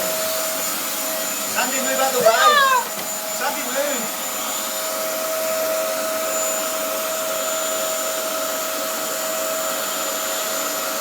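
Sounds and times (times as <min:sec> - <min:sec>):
vacuum cleaner whining: 0:00.0 - 0:11.0.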